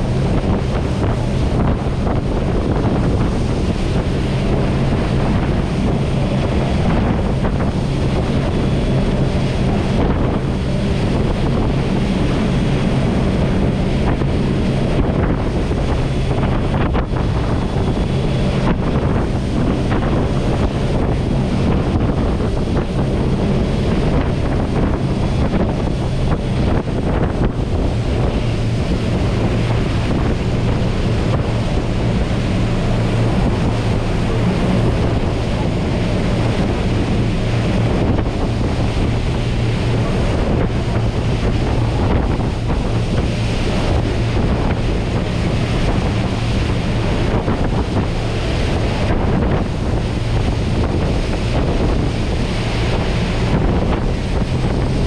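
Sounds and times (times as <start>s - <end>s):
boat engine drone: 0.0s - 55.0s
rush of jet wash: 0.0s - 55.0s
wind on microphone: 0.0s - 55.0s.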